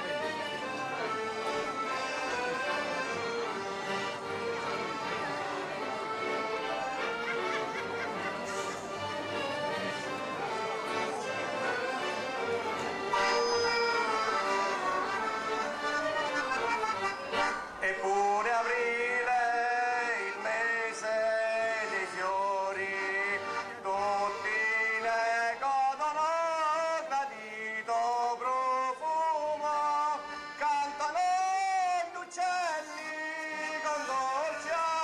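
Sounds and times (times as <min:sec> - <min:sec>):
folk music with accordion: 0:00.0 - 0:35.0.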